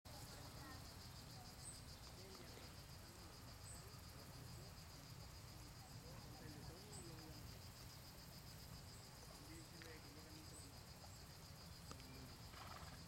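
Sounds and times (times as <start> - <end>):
insects chirring: 0.1 - 13.0.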